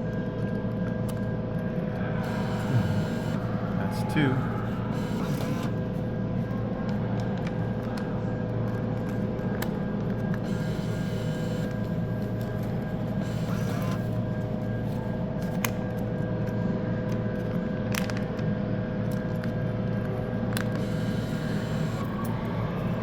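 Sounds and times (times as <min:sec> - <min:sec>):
vending machine hum: 0:00.0 - 0:23.0.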